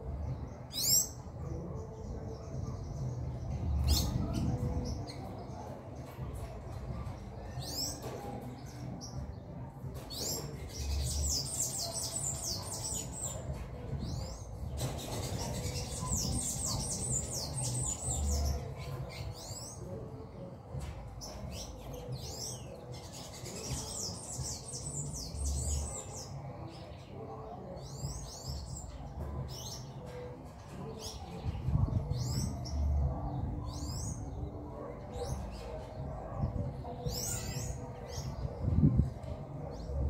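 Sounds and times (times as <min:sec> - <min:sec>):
small songbirds chirping: 0:00.0 - 0:40.0.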